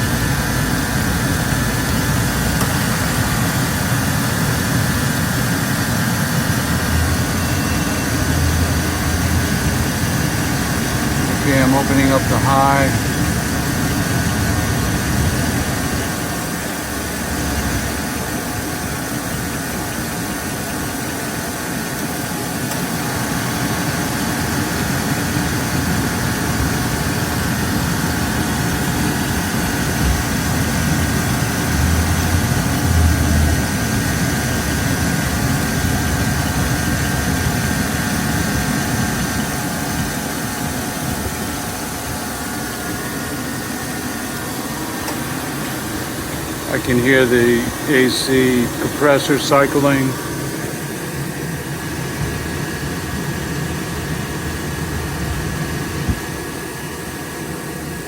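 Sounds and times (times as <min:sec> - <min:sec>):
truck engine idling: 0:00.0 - 0:56.6
air-conditioning compressor running: 0:00.0 - 0:58.0.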